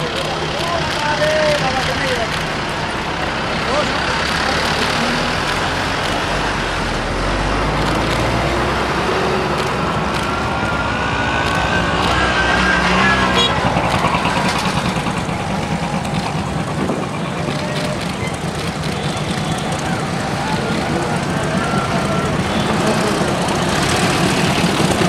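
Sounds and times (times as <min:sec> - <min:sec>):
crowd voices: 0:00.0 - 0:25.0
diesel locomotive engine running: 0:00.0 - 0:25.0
rapid pulsing: 0:00.0 - 0:25.0.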